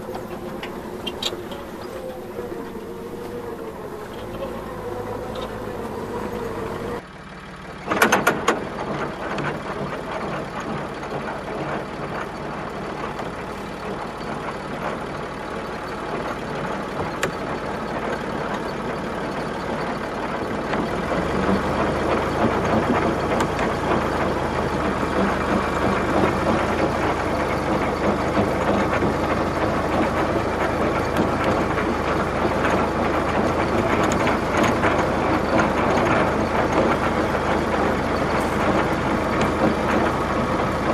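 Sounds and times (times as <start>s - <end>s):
engine rumbling: 0.0s - 40.9s.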